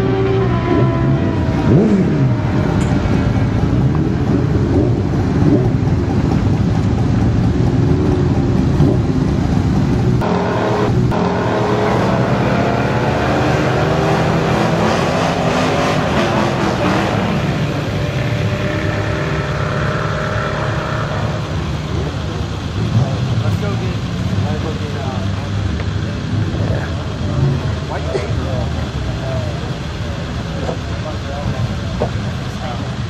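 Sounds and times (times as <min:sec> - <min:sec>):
drag racing engines rumbling: 0:00.0 - 0:33.0.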